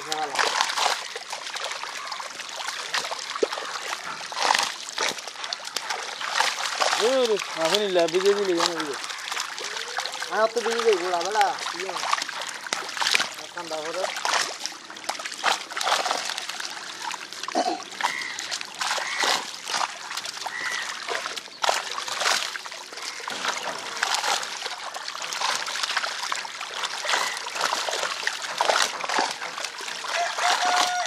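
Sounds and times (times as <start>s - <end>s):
fish splashing in water: 0.0s - 31.0s.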